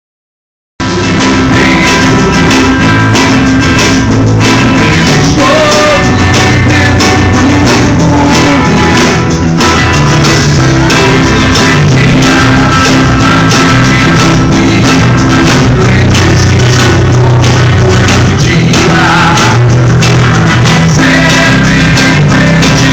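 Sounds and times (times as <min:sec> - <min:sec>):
loud band music: 0:00.8 - 0:22.9
steady drum beat: 0:00.8 - 0:22.9.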